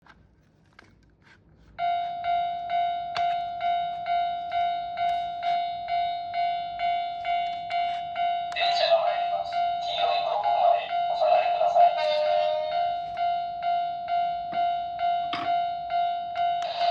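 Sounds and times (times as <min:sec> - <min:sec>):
electronic crossing bell alarm: 0:01.8 - 0:16.9.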